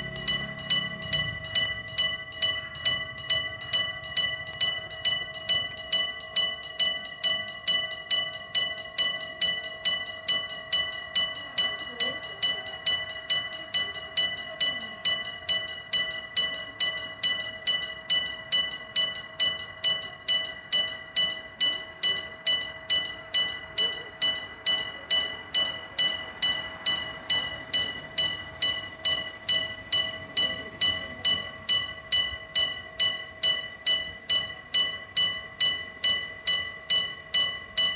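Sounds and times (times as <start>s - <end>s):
level crossing bell ringing: 0.0s - 37.9s.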